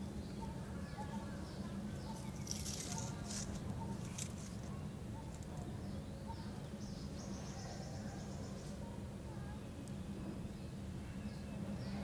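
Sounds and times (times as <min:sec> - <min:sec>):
faint high chirping: 0:00.0 - 0:12.0.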